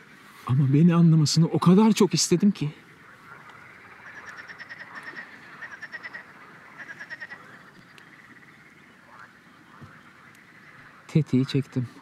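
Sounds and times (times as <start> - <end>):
frogs trilling: 0.0 - 12.0.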